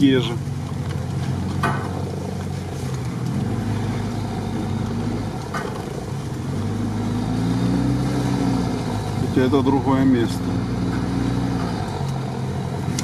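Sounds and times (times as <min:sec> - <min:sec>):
vehicle engine hum with road rumble: 0:00.0 - 0:13.0.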